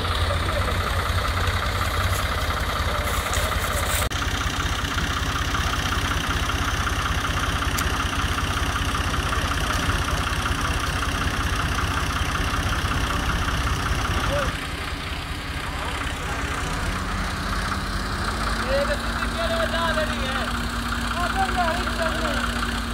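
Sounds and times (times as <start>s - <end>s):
diesel tractor engine idling: 0.0s - 22.9s.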